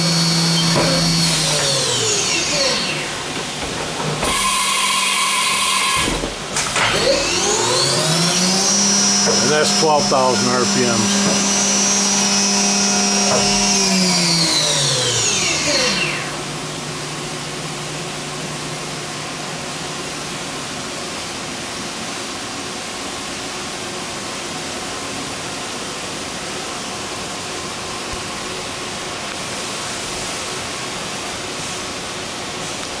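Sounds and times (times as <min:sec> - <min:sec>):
steady noisy hum: 0:06.1 - 0:33.0.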